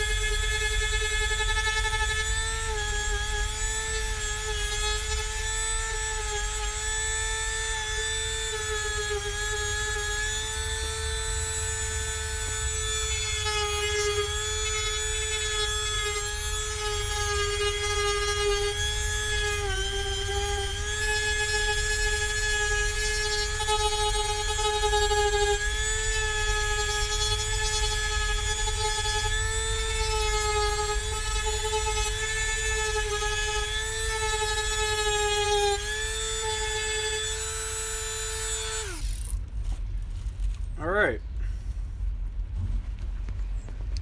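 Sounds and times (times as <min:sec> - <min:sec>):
rotary tool grinding whine: 0:00.0 - 0:39.8.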